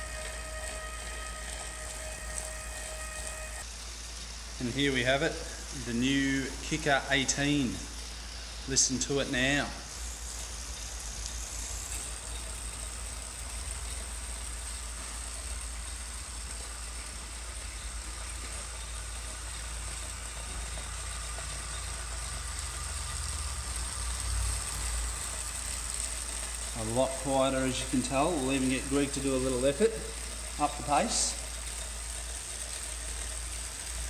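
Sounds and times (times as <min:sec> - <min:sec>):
bike trainer whirring: 0:00.0 - 0:34.0
high steady whine: 0:00.0 - 0:34.0.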